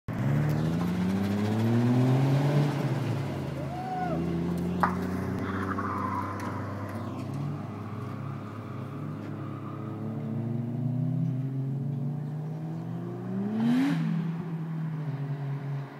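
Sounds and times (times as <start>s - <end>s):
car engine revving: 0.1s - 15.9s.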